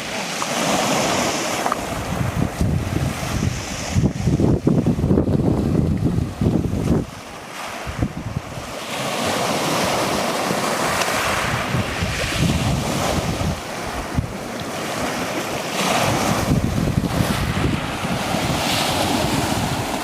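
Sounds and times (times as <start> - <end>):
waves breaking on stony shore: 0.0 - 20.0
wind buffeting microphone: 0.8 - 20.0.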